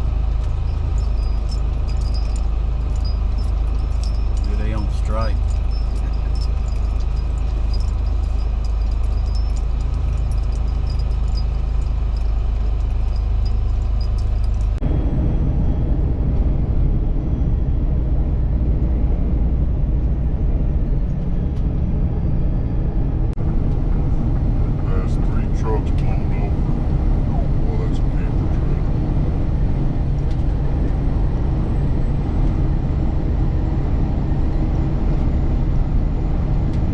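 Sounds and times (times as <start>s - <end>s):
truck driving rumble: 0.0s - 36.9s
truck engine drone: 0.0s - 36.9s.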